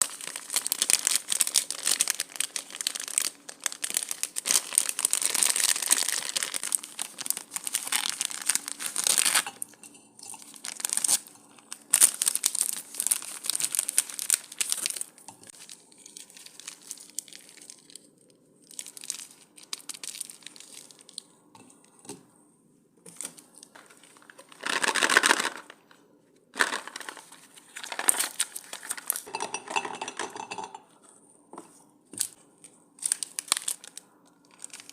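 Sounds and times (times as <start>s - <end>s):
plastic wrappers crinkling and tearing: 0.0s - 22.0s, 23.0s - 30.6s, 32.1s - 34.9s.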